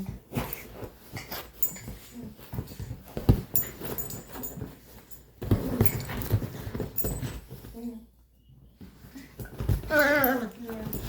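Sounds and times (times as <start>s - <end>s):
dogs scuffling: 0.0s - 8.0s, 8.8s - 11.0s.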